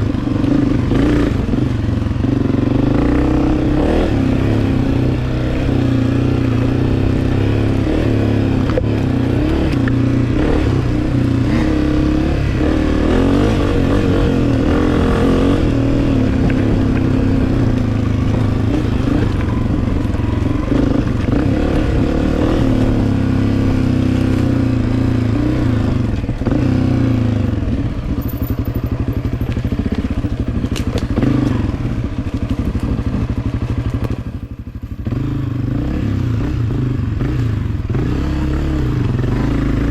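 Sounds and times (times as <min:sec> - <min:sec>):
dirt bike engine revving: 0:00.0 - 0:28.2, 0:31.0 - 0:32.0, 0:35.0 - 0:39.9.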